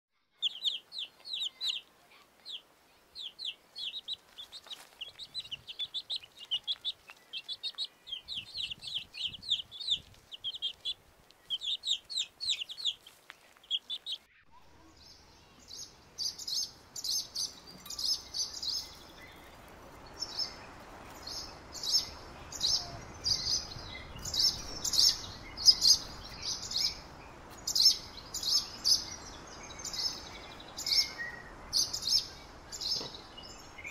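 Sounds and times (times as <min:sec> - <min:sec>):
steady outdoor hiss: 0:00.2 - 0:33.9
baby chick peeping: 0:00.3 - 0:31.1.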